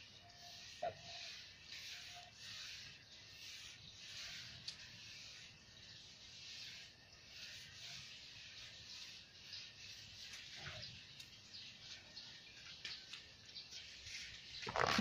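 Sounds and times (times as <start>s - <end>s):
scrubber on wet tiles: 0.4s - 15.0s.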